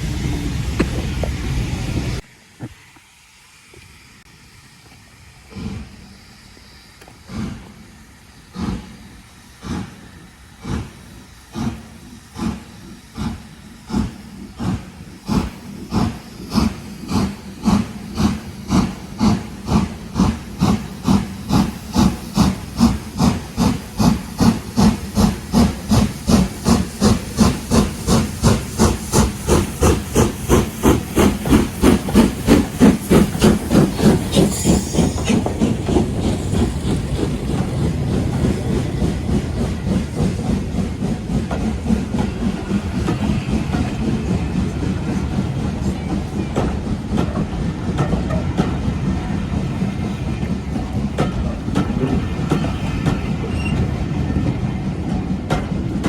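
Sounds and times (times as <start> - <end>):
steam hissing: 0.0 - 56.0
steam locomotive exhaust beats: 0.0 - 56.0.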